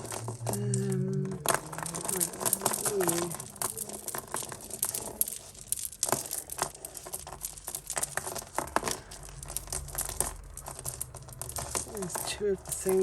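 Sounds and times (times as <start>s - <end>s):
beads and chains clicking: 0.0s - 13.0s
light crinkling: 0.0s - 13.0s.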